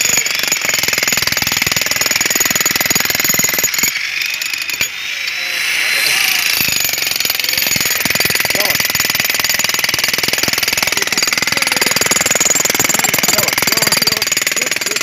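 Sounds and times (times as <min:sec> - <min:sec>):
jackhammer breaking concrete: 0:00.0 - 0:04.9, 0:06.0 - 0:15.0.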